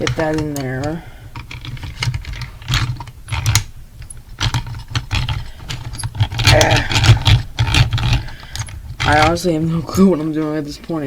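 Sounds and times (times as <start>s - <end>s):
plastic and metal parts rattling: 0.0s - 11.0s.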